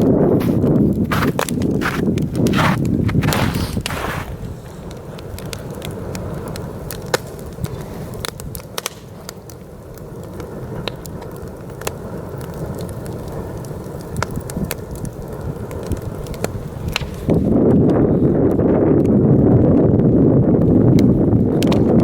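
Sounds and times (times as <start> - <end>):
heavy wind blowing: 0.0 - 10.9, 11.5 - 22.0
campfire crackling and popping: 0.0 - 22.0.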